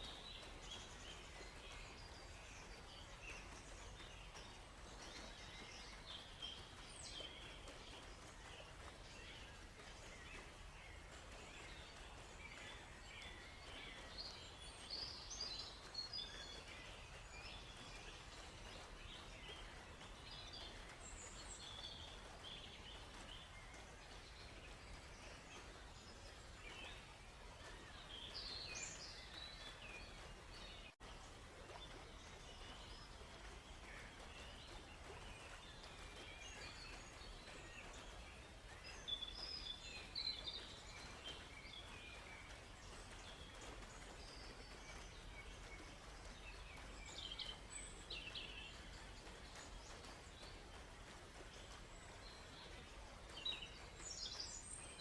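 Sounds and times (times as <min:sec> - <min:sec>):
flowing water: 0:00.0 - 0:55.0
small birds chirping: 0:00.0 - 0:55.0.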